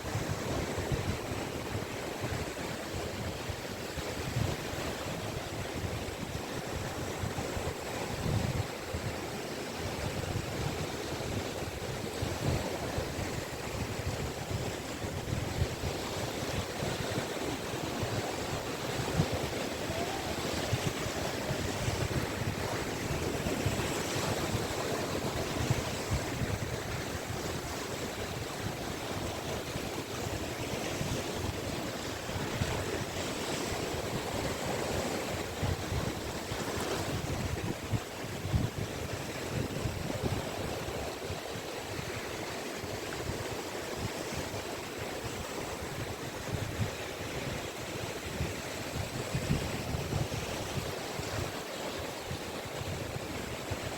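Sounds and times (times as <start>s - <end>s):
waves breaking on beach: 0.0s - 53.9s
wind on microphone: 0.0s - 53.9s.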